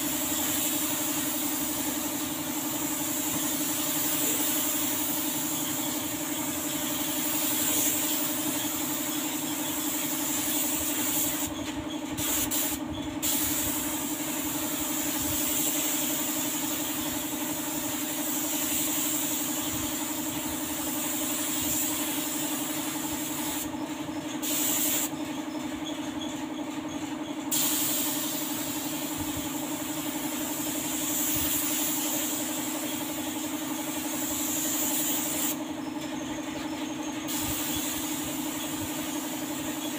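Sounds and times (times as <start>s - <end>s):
paint spray gun hissing: 0.0s - 11.6s, 12.2s - 23.7s, 24.4s - 25.2s, 27.5s - 35.7s, 37.3s - 39.9s.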